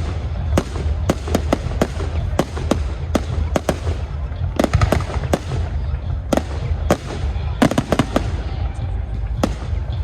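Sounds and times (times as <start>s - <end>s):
fireworks bangs and crackling: 0.0s - 10.0s
steady low rumble: 0.0s - 10.0s.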